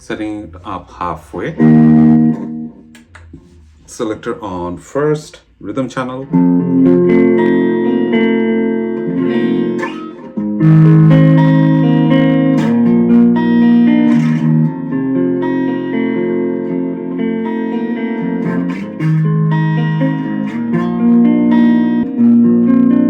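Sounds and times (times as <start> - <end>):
electric guitar with delay: 0.0 - 4.9, 5.9 - 23.0.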